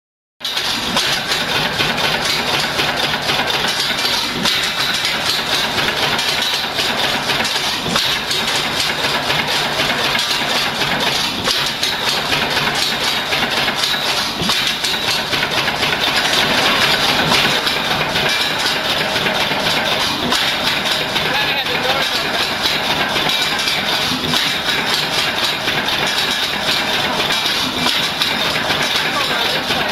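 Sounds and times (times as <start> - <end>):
stationary engine clattering: 0.4 - 29.9.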